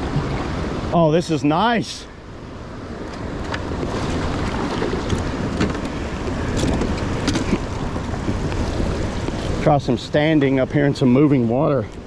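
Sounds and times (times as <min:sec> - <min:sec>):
river water rushing: 0:00.0 - 0:12.0
wind rumbling on microphone: 0:02.2 - 0:12.0.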